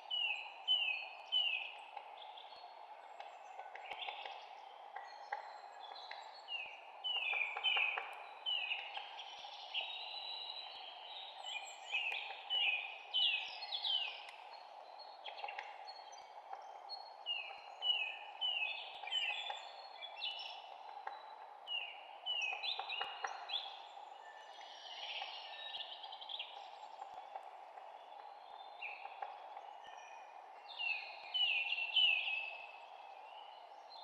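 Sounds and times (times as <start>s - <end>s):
songbirds chirping: 0.0s - 34.0s
steady background hiss: 0.0s - 34.0s.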